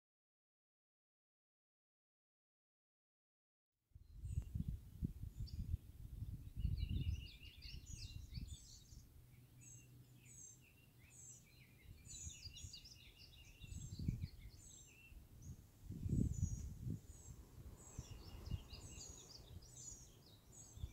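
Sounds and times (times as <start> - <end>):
songbirds chirping: 4.0 - 20.9.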